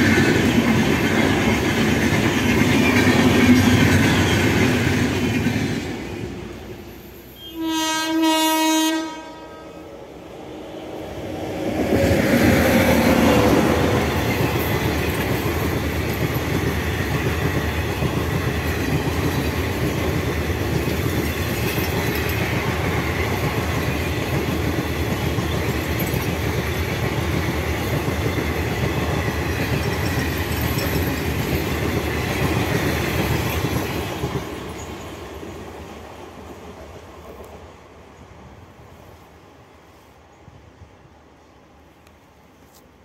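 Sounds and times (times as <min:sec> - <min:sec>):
train wheels running over rails: 0:00.0 - 0:07.2, 0:11.1 - 0:38.5.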